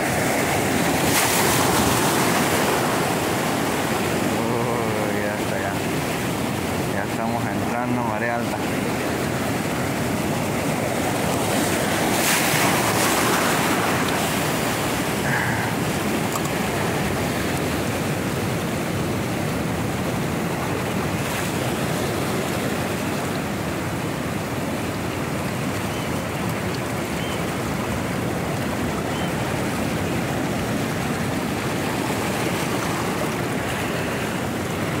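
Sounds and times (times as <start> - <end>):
surf breaking over rocks: 0.0 - 24.6, 27.8 - 35.0.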